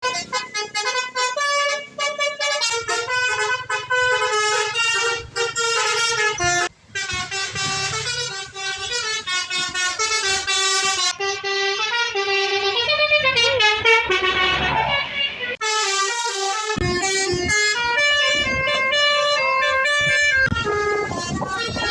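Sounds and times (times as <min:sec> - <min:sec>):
multi-tone bus horn playing a tune: 0:00.0 - 0:21.9
low engine rumble: 0:00.1 - 0:21.9.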